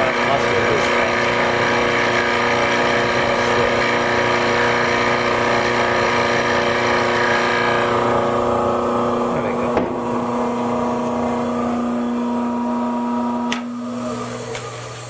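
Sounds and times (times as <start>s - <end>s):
drill bit boring into wood: 0.0s - 14.7s
boring machine motor hum: 0.0s - 15.0s.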